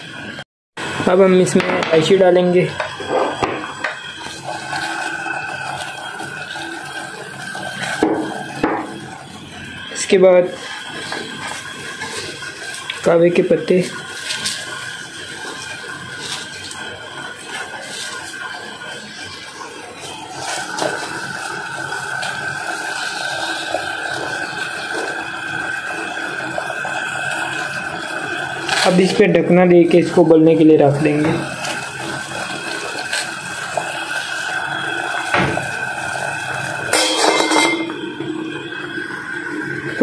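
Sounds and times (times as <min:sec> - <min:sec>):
steady high hum: 0:00.0 - 0:40.0
water boiling in a saucepan: 0:00.0 - 0:40.0.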